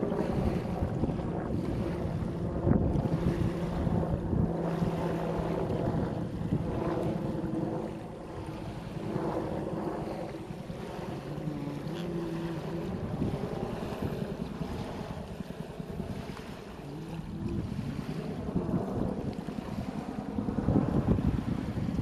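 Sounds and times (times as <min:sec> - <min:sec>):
distant engine hum: 0:00.0 - 0:22.0
small waves lapping: 0:00.0 - 0:22.0
wind buffeting microphone: 0:00.0 - 0:22.0.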